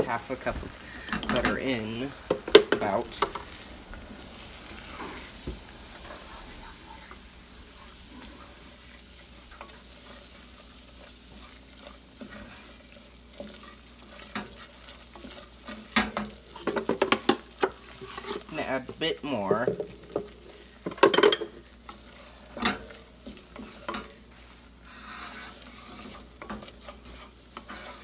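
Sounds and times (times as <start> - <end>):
butter sizzling in a saucepan: 0.0 - 28.0
wooden spatula stirring: 0.0 - 28.0.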